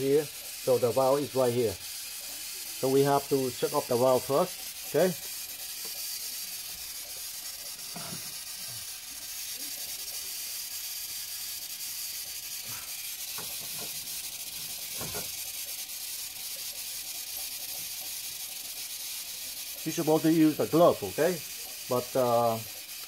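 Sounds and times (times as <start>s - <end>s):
steam hissing from valve: 0.0s - 23.0s.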